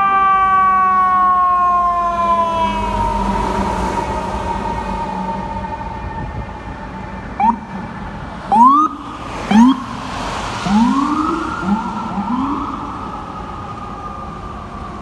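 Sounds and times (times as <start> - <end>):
city traffic noise: 0.0 - 15.0
fire truck siren whoops: 0.0 - 15.0.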